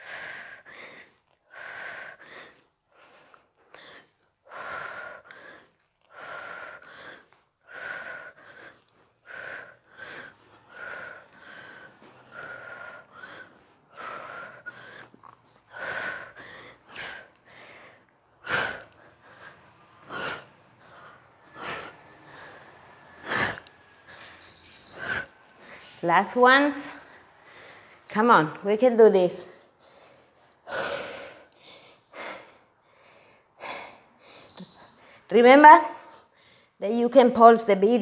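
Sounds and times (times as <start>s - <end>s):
woman breathing hard: 0.0s - 26.0s, 26.8s - 28.1s, 29.5s - 35.3s, 36.0s - 36.8s.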